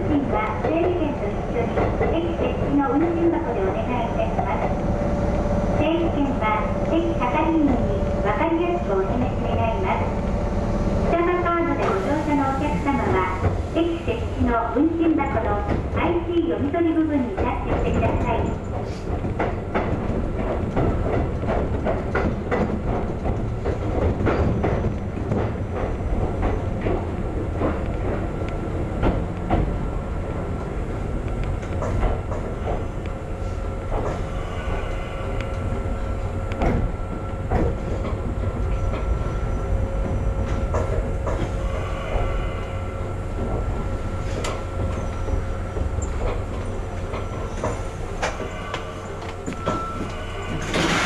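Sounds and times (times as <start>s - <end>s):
train running rumble: 0.0s - 51.0s.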